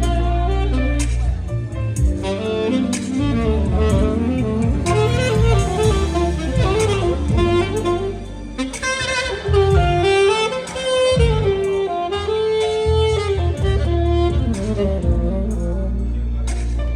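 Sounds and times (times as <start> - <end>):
low bass accompaniment: 0.0 - 16.9
saxophone melody: 0.0 - 16.9.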